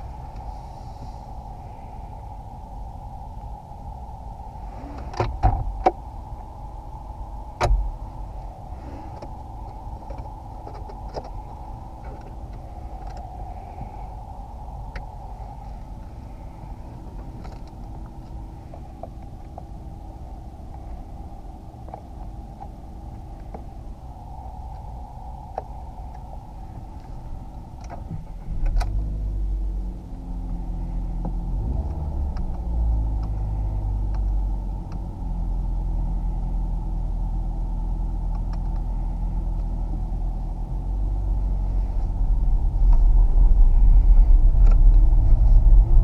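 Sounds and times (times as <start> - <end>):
car engine starting and idling: 0.0 - 46.0.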